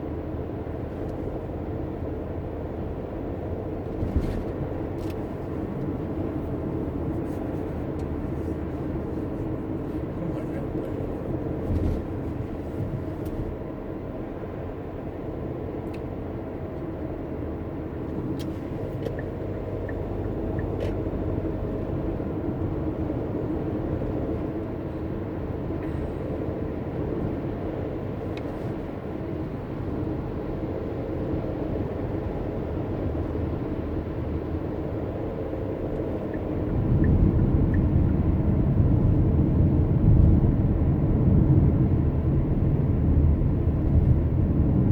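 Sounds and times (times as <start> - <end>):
car engine and tyre road noise: 0.0 - 44.9.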